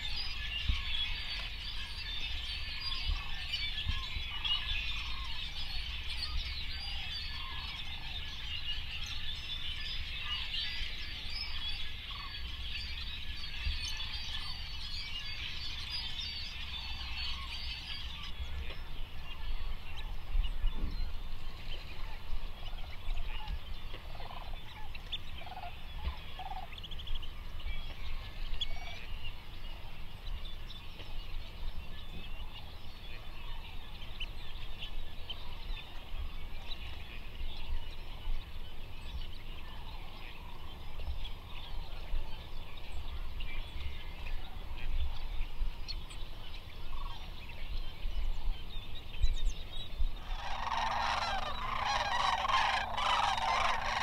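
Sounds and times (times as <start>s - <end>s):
flock of distant birds calling: 0.0s - 54.0s.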